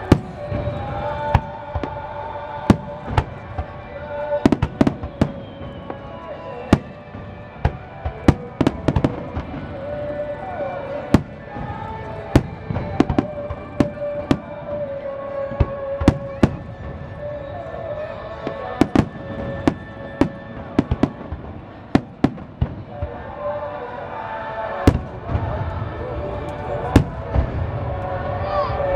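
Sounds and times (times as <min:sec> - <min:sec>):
background music: 0:00.0 - 0:28.9.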